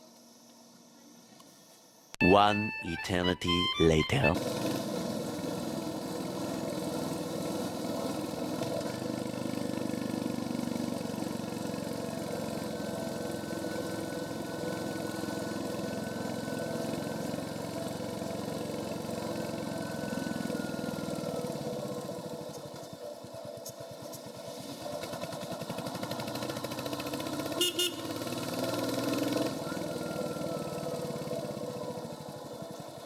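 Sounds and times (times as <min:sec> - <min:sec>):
motorcycle engine running: 0:04.4 - 0:33.0.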